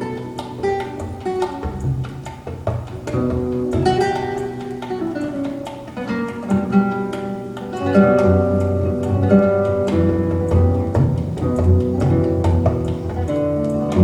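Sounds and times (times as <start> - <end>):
plucked acoustic guitar music: 0.0 - 14.0.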